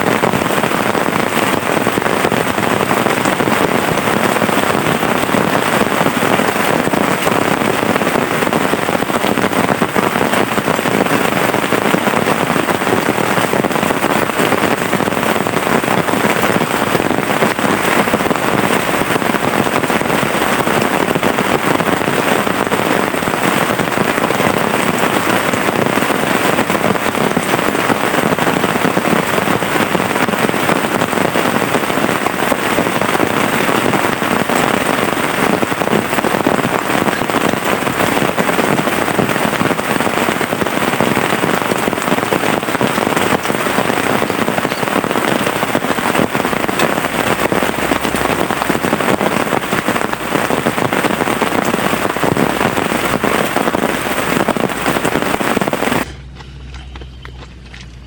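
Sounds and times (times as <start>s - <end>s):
heavy rain: 0.0s - 56.1s.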